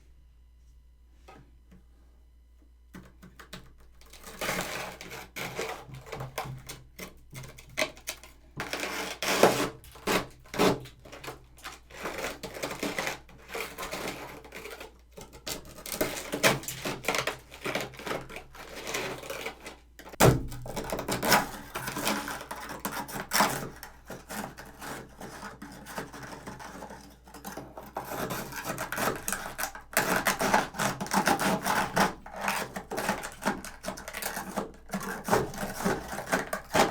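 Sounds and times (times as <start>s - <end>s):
scraping freezer frost: 3.5s - 36.9s.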